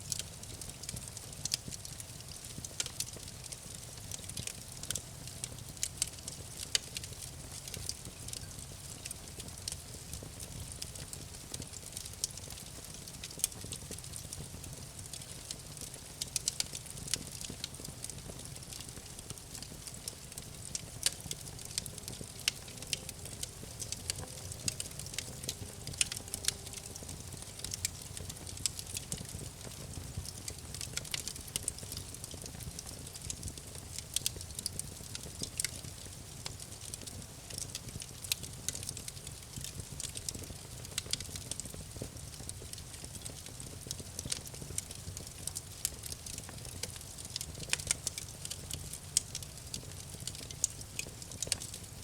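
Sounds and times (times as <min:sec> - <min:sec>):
low rumble of flame: 0:00.0 - 0:52.0
campfire crackling: 0:00.1 - 0:52.0.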